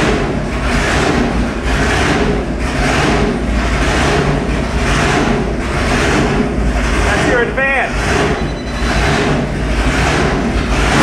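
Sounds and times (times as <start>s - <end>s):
loping engine idling: 0.0s - 11.0s.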